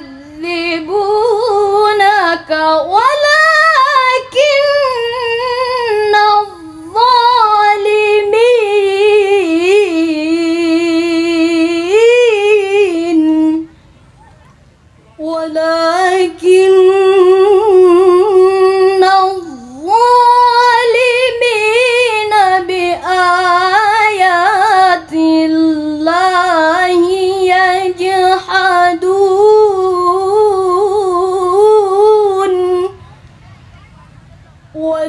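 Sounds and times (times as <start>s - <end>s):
girl reciting melodically: 0.0s - 13.9s, 15.1s - 33.3s, 34.0s - 35.0s.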